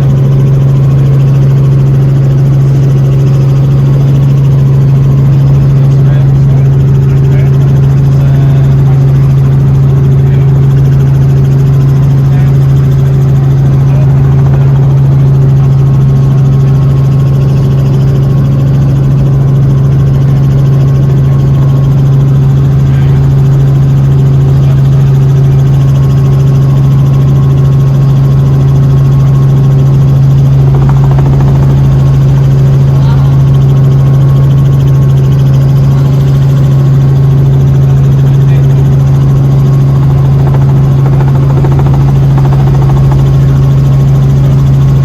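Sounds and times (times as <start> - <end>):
helicopter low hum: 0.0 - 45.0.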